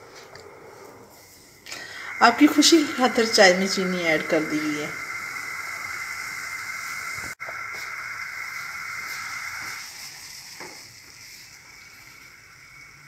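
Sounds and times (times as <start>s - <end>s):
milk tea boiling in a saucepan: 0.0s - 13.0s.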